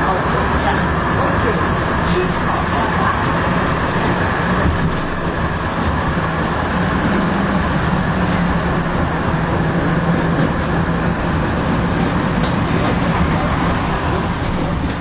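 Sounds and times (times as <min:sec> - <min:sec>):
low motor hum: 0:00.0 - 0:15.0
tram wheels rumbling on rails: 0:00.0 - 0:15.0.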